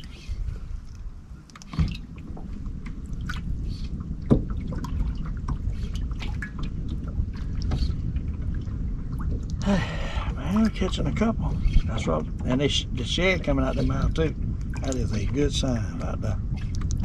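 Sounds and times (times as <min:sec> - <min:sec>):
steady low rumble: 0:00.0 - 0:17.0
water dripping and lapping: 0:00.0 - 0:17.0.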